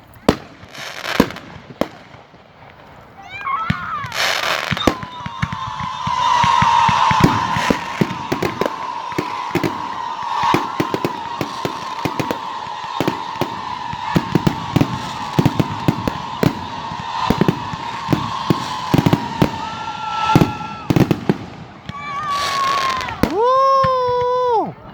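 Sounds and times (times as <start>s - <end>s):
fireworks bangs and crackles: 0.0s - 24.7s.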